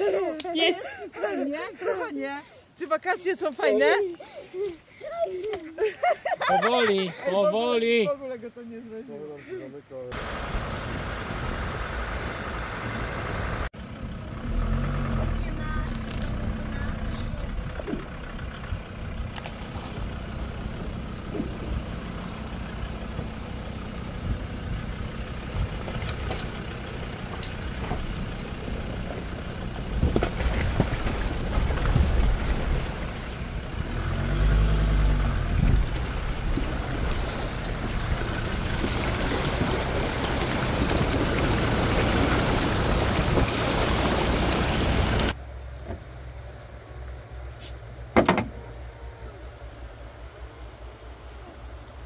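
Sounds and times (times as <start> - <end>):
off-road vehicle engine rumble: 9.3 - 52.0
road and wind noise: 9.9 - 52.0.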